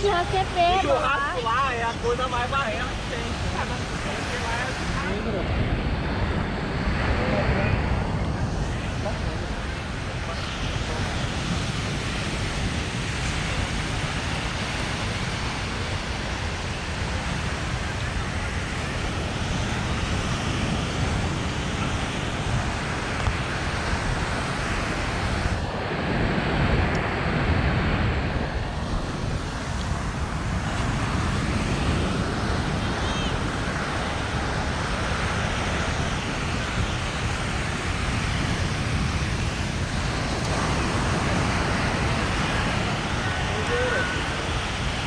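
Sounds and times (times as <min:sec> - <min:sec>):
road traffic: 0:00.0 - 0:26.0, 0:26.9 - 0:45.0
ocean surf: 0:00.0 - 0:45.0
wind buffeting microphone: 0:00.0 - 0:45.0.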